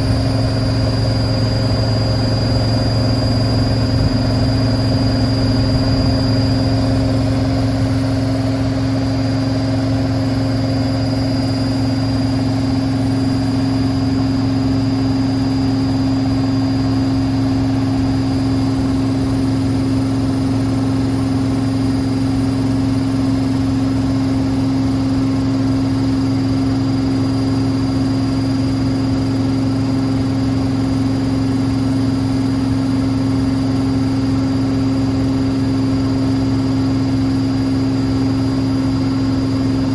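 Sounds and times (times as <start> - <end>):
high whine: 0.0 - 39.9
washing machine spinning: 0.0 - 39.9.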